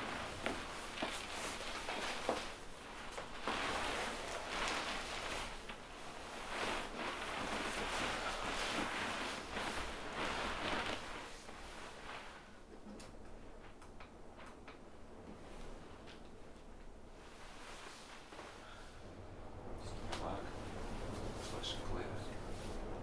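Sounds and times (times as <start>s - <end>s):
irregular rustling: 0.0s - 19.0s.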